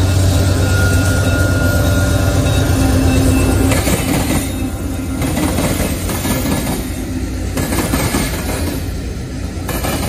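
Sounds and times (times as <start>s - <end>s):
diesel locomotive engines rumbling: 0.0s - 10.0s
train cars rolling over rails: 0.0s - 10.0s.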